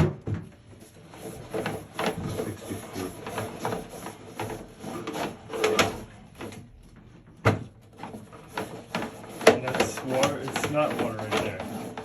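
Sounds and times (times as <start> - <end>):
irregular scraping and knocking: 0.0 - 12.0.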